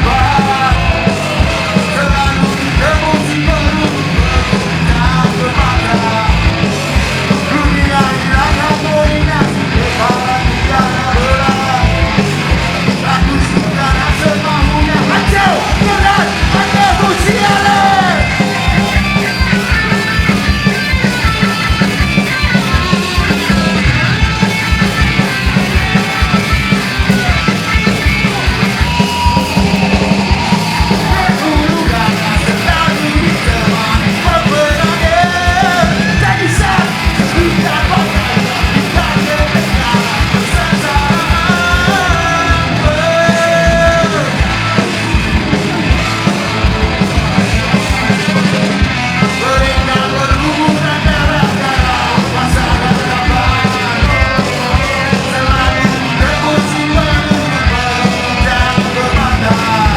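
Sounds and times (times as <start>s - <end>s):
distorted guitars and bass: 0.0s - 59.9s
fast drums: 0.0s - 59.9s
punk rock band playing: 0.0s - 59.9s
shouted vocals: 0.0s - 59.9s.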